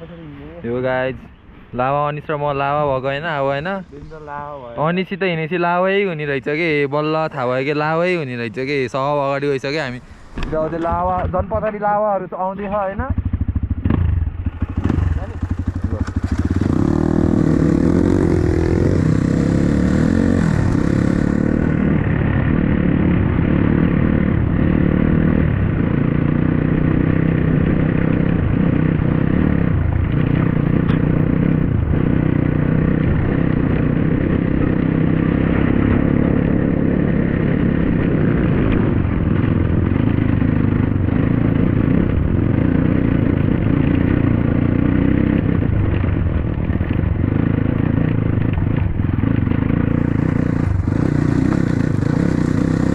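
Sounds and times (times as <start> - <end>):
dirt bike engine running: 10.4 - 52.9.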